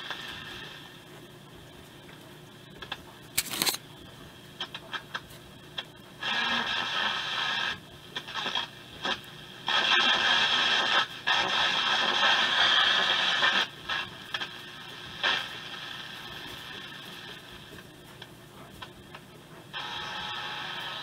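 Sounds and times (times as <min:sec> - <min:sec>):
radio hiss surges: 0:00.0 - 0:21.0
radio static with crackles: 0:00.0 - 0:21.0.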